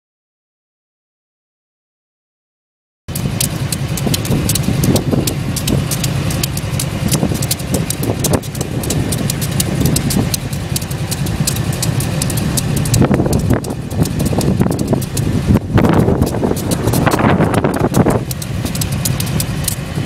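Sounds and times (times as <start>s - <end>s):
diesel locomotives idling: 3.1s - 20.0s
sharp clicks: 3.1s - 20.0s.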